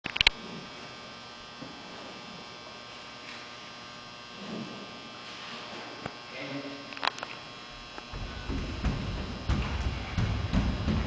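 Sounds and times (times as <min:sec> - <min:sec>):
electrical hum: 0:00.0 - 0:11.0
high buzz: 0:00.1 - 0:11.0.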